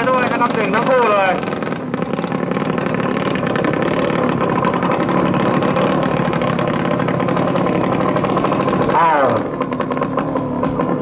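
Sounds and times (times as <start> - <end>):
speedboat engines running: 0.0 - 11.0.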